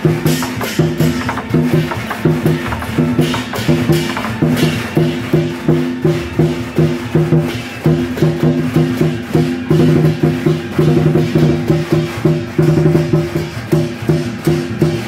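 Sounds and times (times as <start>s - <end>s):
drum and gongs beating: 0.0s - 15.0s.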